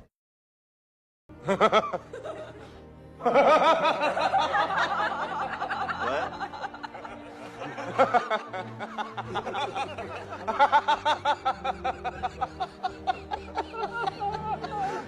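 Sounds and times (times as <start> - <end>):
person laughing: 1.4 - 15.0.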